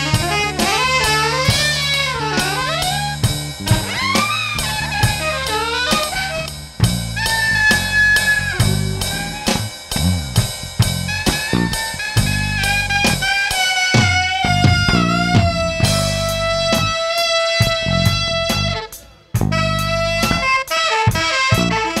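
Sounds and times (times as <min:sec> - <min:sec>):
saxophone line: 0:00.0 - 0:10.1, 0:10.8 - 0:22.0
electric bass groove: 0:00.0 - 0:22.0
electronic drum kit beat: 0:00.0 - 0:22.0.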